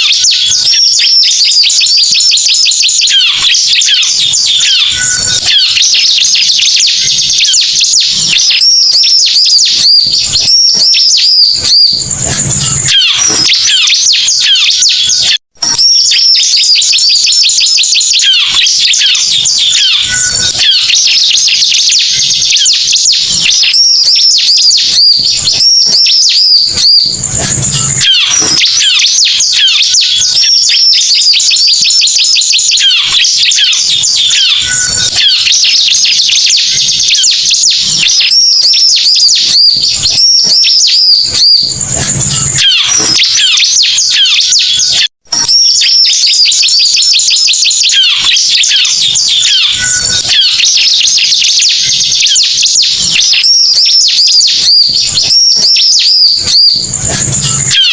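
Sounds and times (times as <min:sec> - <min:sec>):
birds chirping and trilling: 0:00.0 - 0:57.9.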